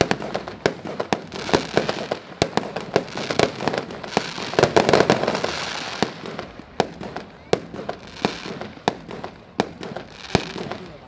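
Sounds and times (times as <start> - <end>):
fireworks bangs: 0.0 - 11.0
fireworks rumble: 0.0 - 11.0.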